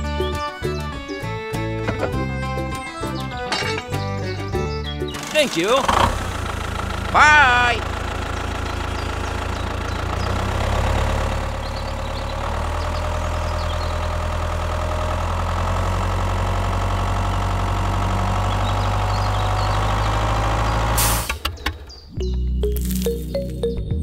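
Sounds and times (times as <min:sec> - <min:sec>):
tractor engine humming: 0:00.0 - 0:23.8.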